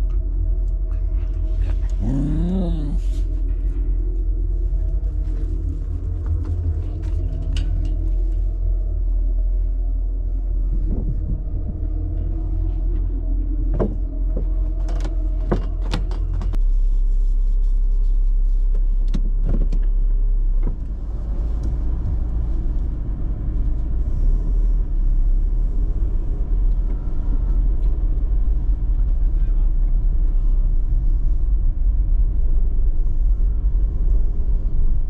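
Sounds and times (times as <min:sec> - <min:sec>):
vehicle rumble from inside: 0:00.0 - 0:35.0.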